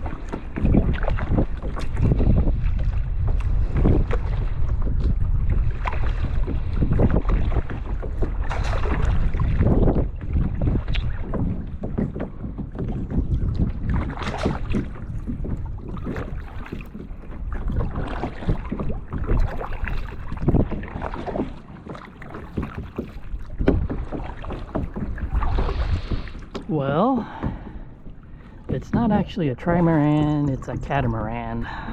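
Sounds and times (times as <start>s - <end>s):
paddle splashing in water: 0.0s - 31.9s
wind rumbling on microphone: 0.0s - 31.9s.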